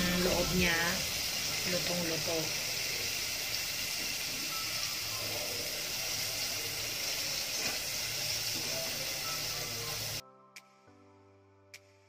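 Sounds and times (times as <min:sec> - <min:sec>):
food deep-frying in hot oil: 0:00.0 - 0:10.2.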